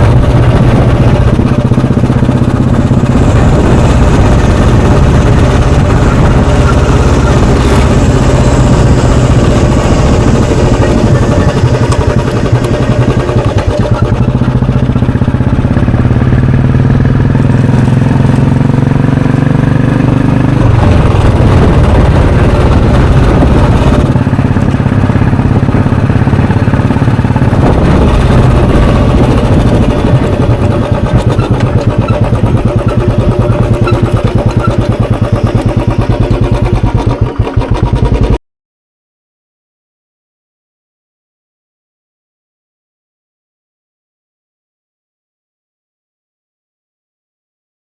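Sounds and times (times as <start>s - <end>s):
motorcycle engine revving: 0.0s - 38.4s.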